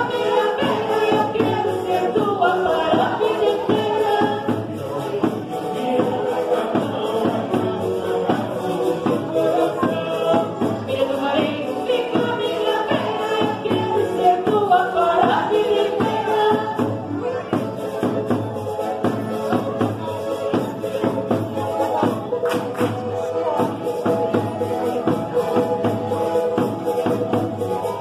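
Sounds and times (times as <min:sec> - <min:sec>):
accompanying instruments: 0:00.0 - 0:28.0
steady percussion beat: 0:00.0 - 0:28.0
voices singing together: 0:00.0 - 0:28.0.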